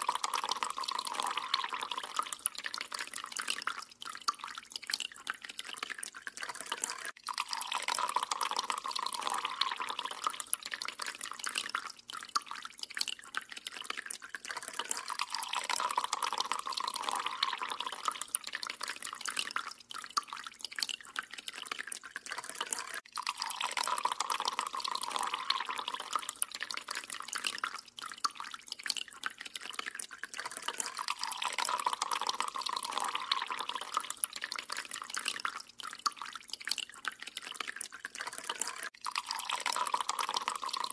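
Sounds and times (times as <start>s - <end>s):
water dripping into metal sink: 0.0s - 40.9s.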